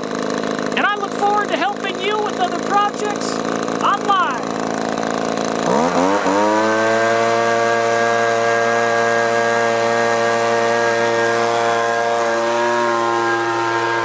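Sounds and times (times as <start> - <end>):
leaf blower engine running: 0.0 - 14.0.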